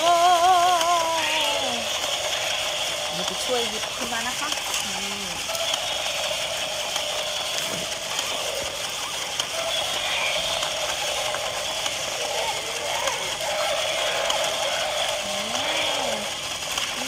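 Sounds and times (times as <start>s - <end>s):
toy gear motors whirring: 0.0s - 17.0s.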